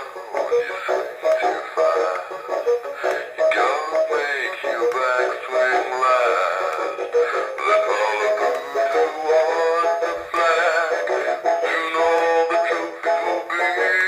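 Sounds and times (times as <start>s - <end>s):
tinny recorded song from toy: 0.0s - 14.0s.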